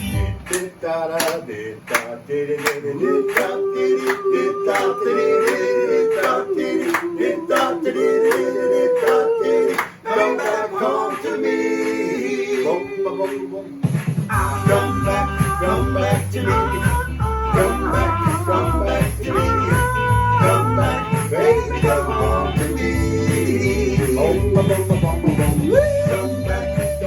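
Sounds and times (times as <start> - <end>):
vocal group singing doo-wop harmony: 0.0 - 27.0.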